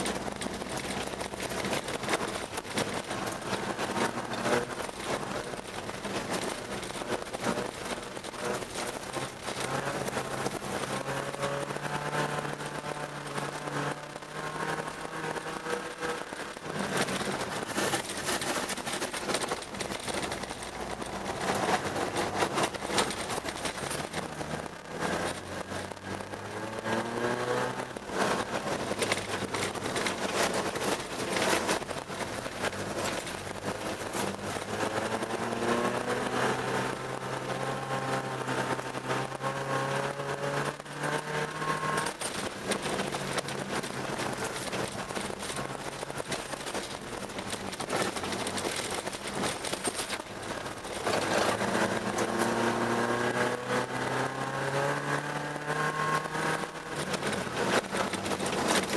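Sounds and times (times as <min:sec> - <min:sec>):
car engine revving: 0:00.0 - 0:58.9
car knocks and rattles: 0:00.0 - 0:58.9.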